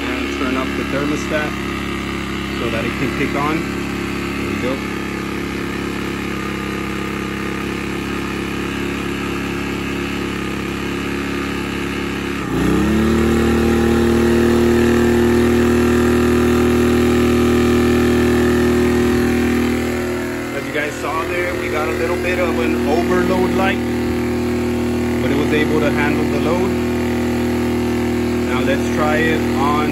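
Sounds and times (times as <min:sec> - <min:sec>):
generator engine running: 0:00.0 - 0:29.9.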